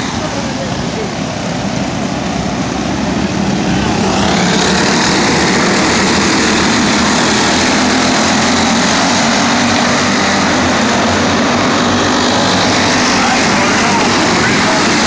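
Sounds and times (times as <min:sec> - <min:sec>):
go-kart engines racing: 0:00.0 - 0:15.0.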